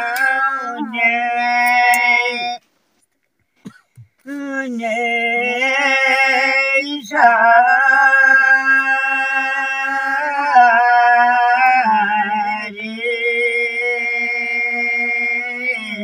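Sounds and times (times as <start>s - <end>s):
man and woman singing unaccompanied: 0.0s - 2.6s, 4.2s - 16.0s.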